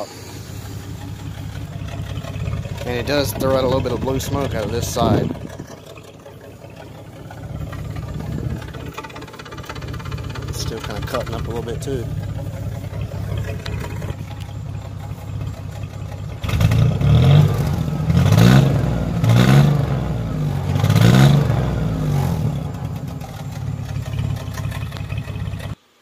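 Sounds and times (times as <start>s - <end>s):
engine idling and revving: 0.0s - 25.8s.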